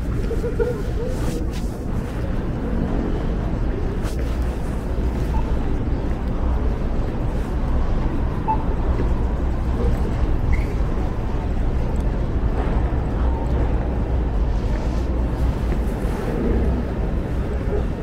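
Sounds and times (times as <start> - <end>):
murmur of passers-by: 0.0 - 18.0
traffic rumble: 0.0 - 18.0.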